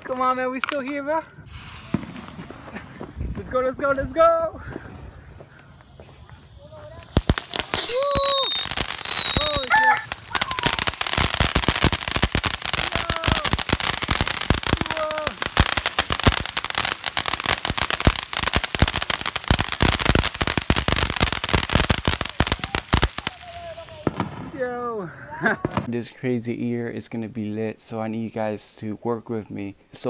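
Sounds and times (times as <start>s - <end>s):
firework fountain crackling: 0.0s - 26.1s.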